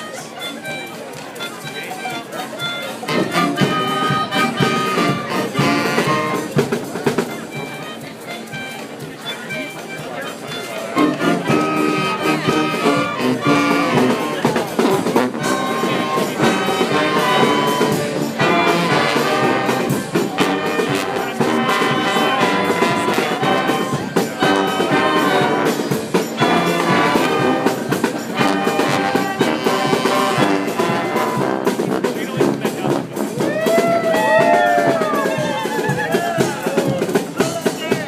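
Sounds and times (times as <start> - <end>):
brass band playing: 0.0 - 38.0.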